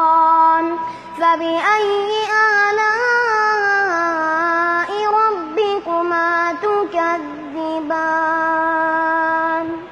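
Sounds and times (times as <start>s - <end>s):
child chanting melodically: 0.0s - 9.9s.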